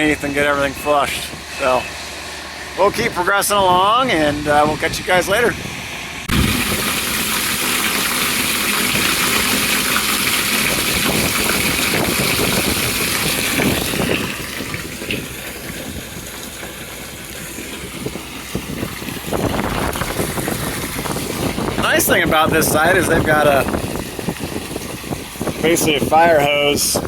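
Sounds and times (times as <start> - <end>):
engine running: 0.0 - 27.0
water rushing under pressure: 0.0 - 27.0.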